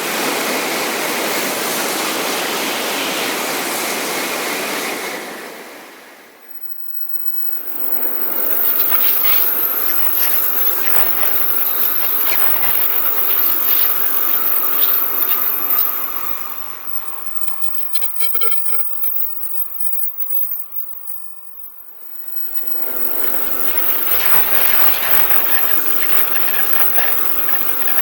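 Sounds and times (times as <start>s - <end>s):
bullet train passing at speed: 4.2s - 28.0s.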